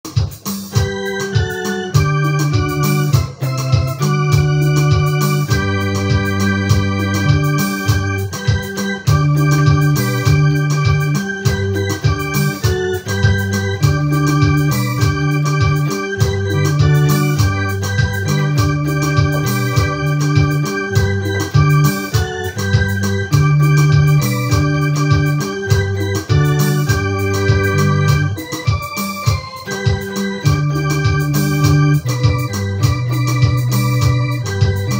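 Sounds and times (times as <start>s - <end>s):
electronic keyboard melody: 0.0s - 34.9s.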